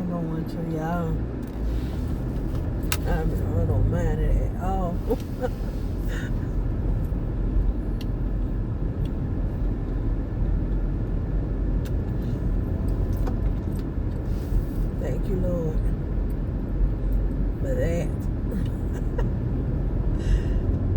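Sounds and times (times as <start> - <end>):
truck engine and road noise: 0.0 - 20.9.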